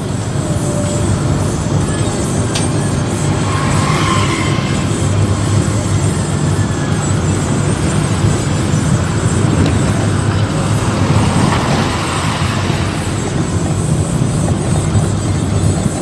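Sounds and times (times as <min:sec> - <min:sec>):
vehicle road and engine rumble: 0:00.0 - 0:16.0.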